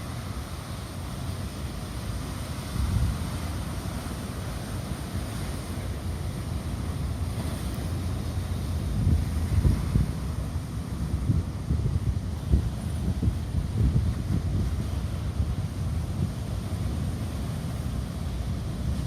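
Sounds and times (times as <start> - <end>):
heavy sea surf: 0.0 - 19.0
wind gusting on microphone: 0.0 - 19.0.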